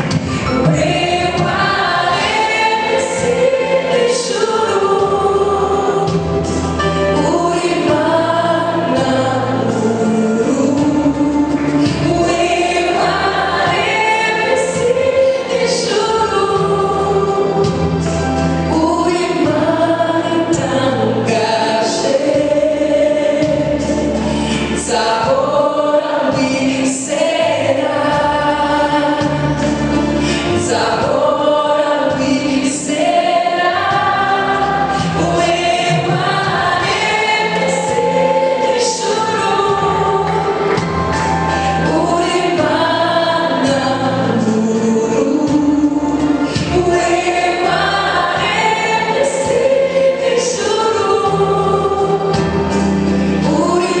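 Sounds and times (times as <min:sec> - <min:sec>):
choir singing: 0:00.0 - 0:54.0
instrumental accompaniment: 0:00.0 - 0:54.0.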